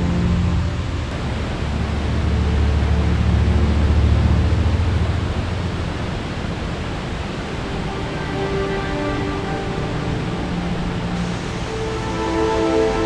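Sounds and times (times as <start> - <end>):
creek and waterfall rushing: 0.0 - 13.0.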